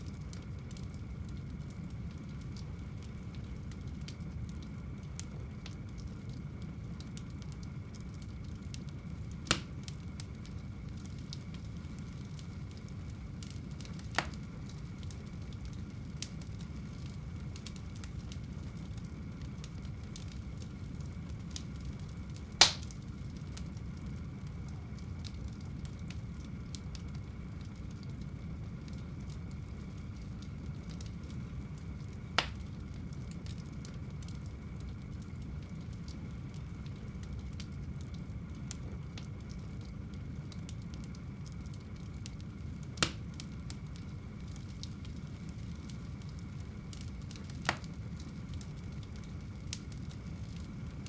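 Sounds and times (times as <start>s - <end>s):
burning logs popping: 0.0s - 51.0s
fire crackling: 0.0s - 51.0s
flames rushing: 0.0s - 51.0s.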